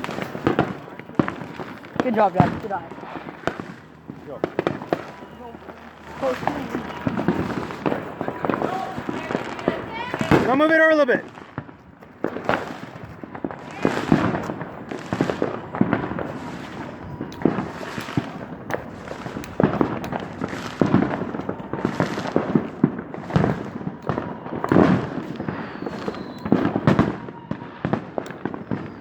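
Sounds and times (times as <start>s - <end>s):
falling firework whistle: 0.0s - 10.6s, 12.3s - 29.0s
fireworks bangs and crackles: 0.0s - 29.0s.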